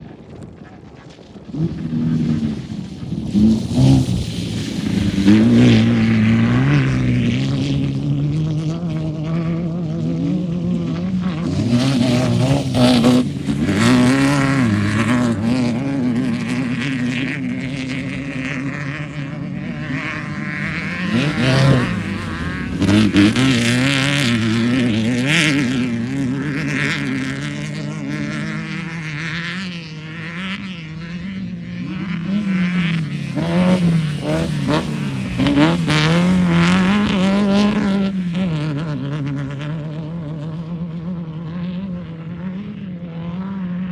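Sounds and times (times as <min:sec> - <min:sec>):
racing vehicle engines revving: 0:00.3 - 0:43.9.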